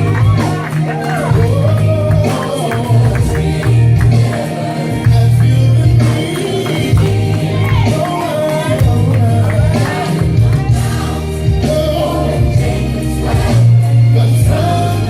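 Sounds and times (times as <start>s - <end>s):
band with heavy bass line: 0.0s - 15.0s
choir singing gospel: 0.0s - 15.0s.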